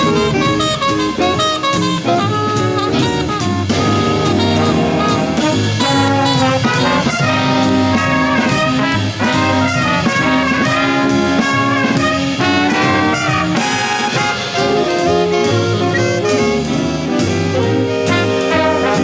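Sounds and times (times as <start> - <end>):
swing jazz band: 0.0 - 19.0.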